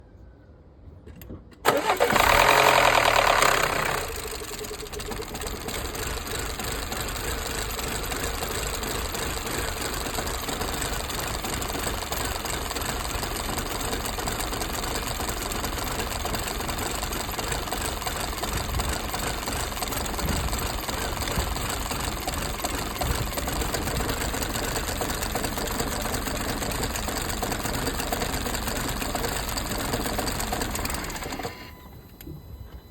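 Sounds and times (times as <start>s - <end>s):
car engine starting and idling: 1.5s - 32.2s.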